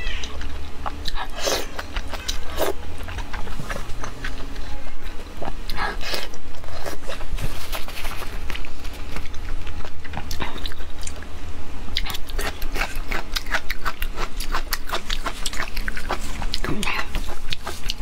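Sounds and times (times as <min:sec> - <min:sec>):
wet chewing: 0:00.2 - 0:11.3, 0:11.9 - 0:18.0.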